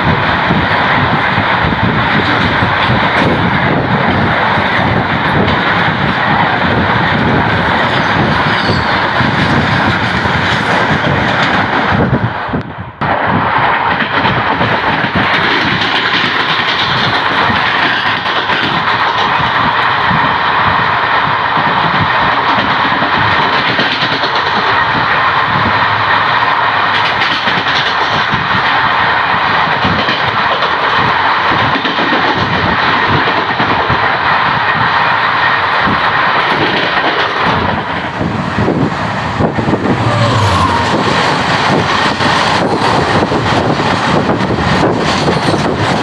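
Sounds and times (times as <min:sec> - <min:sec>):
goods train passing: 0:00.0 - 0:46.0
train wheels rushing on rail: 0:00.0 - 0:46.0.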